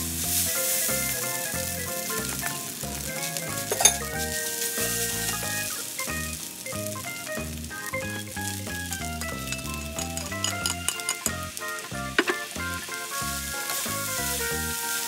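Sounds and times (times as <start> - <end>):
background music with bass line: 0.0 - 15.0
noodles sizzling in a frying pan: 0.0 - 15.0.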